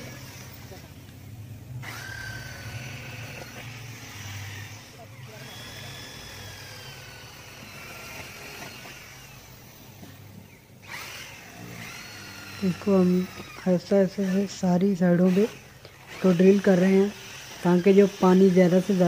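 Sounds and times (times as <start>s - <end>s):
electric drill whining: 0.0s - 19.0s.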